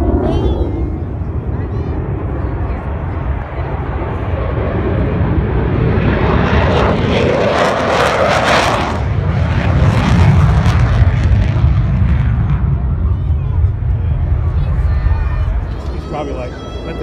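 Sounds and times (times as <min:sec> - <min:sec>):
fighter jet engine roar: 0:00.0 - 0:17.0.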